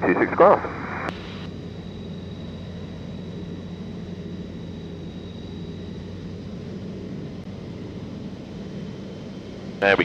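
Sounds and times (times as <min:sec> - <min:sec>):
aircraft engine and propeller droning: 0:00.0 - 0:10.0
faint high whine: 0:00.0 - 0:10.0.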